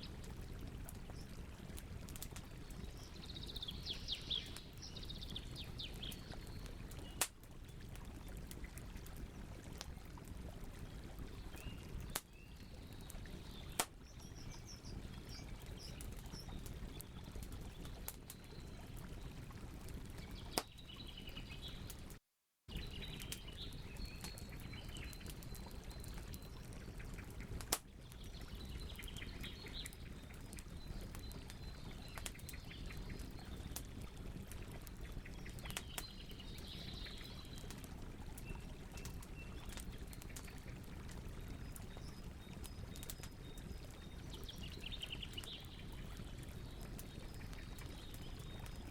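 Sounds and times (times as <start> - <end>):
campfire crackling and popping: 0.0 - 48.9
small birds chirping: 2.1 - 7.3, 10.9 - 19.4, 20.0 - 48.9.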